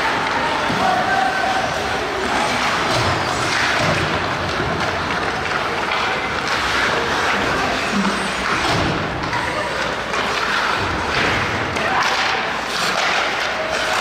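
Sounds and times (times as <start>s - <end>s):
scattered voices: 0.0s - 14.0s.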